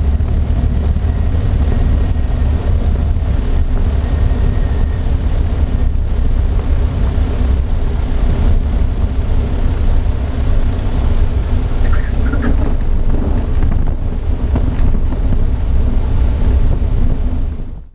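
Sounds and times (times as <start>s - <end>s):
light aircraft engine and propeller: 0.0s - 17.9s.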